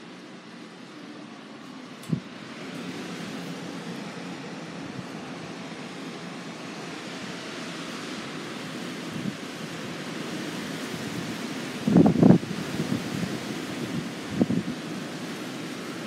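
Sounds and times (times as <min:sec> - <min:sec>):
storm wind and rain through window: 0:00.0 - 0:16.0.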